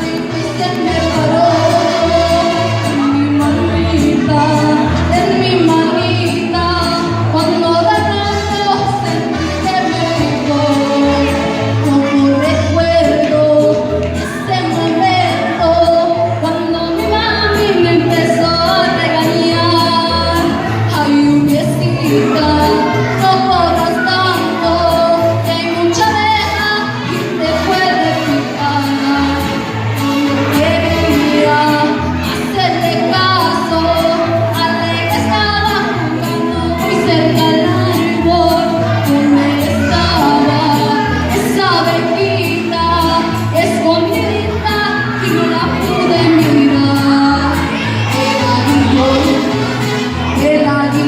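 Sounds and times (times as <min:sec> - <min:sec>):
woman singing: 0:00.0 - 0:51.0.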